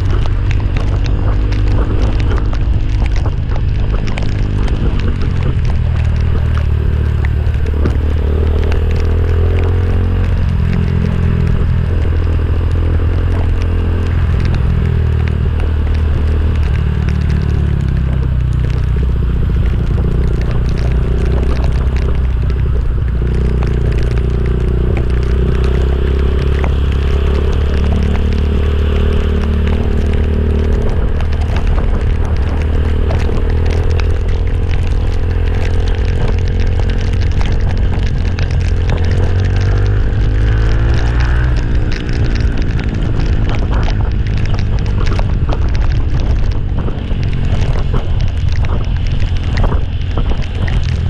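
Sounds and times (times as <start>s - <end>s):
motorcycle engine running: 0.0s - 51.0s
rough wind noise: 0.0s - 51.0s.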